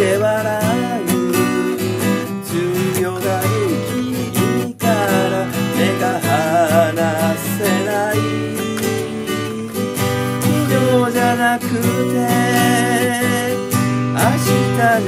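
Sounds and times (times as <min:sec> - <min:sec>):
acoustic guitar strumming chords: 0:00.0 - 0:15.0
man singing: 0:00.0 - 0:15.0.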